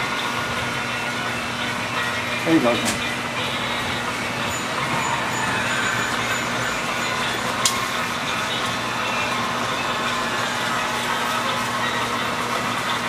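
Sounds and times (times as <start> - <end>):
toy train whirring: 0.0 - 13.0.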